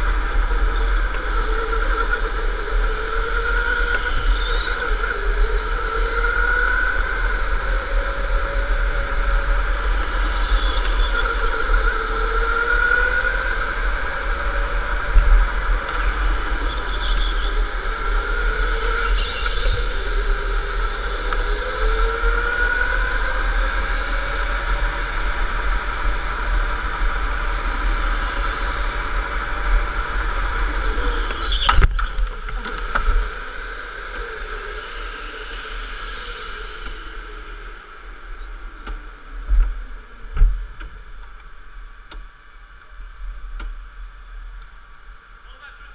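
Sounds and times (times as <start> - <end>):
kart rumble and rattle: 0.0 - 41.2.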